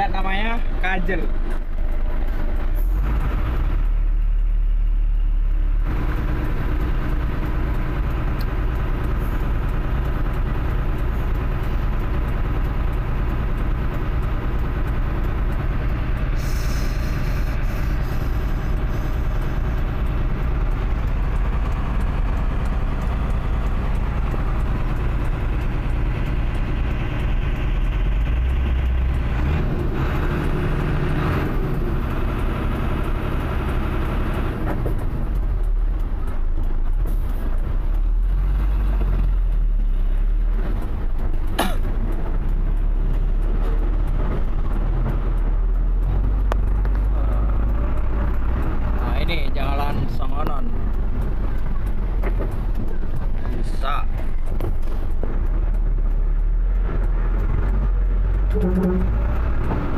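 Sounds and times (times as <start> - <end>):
heavy truck engine running: 0.0 - 59.9.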